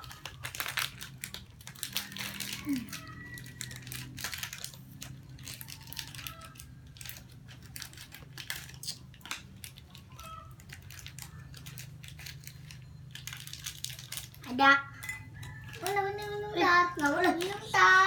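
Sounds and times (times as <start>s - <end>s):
plastic snack packets crinkling: 0.0s - 18.0s.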